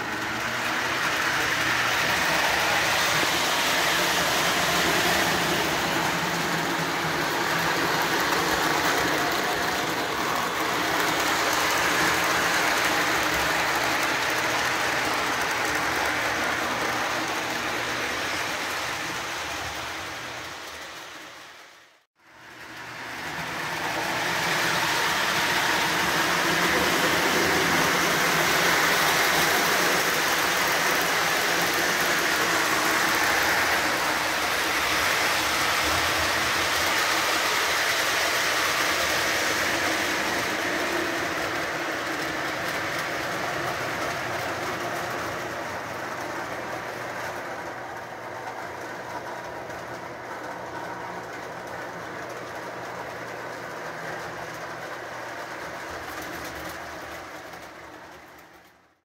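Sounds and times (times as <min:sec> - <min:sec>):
model train motor hum: 0:00.0 - 0:21.6, 0:22.4 - 0:49.8
wheels rolling over rails: 0:00.0 - 0:21.7, 0:22.3 - 0:58.8.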